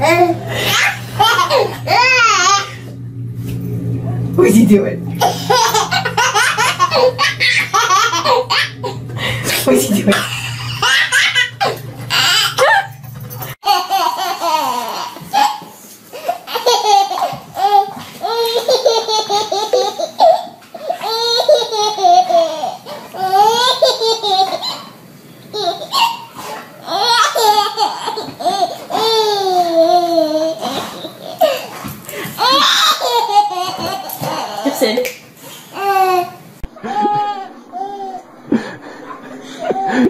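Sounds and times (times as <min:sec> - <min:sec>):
baby laughing: 0:00.0 - 0:02.8, 0:05.2 - 0:09.3, 0:10.0 - 0:13.0, 0:13.6 - 0:35.0, 0:35.8 - 0:40.0.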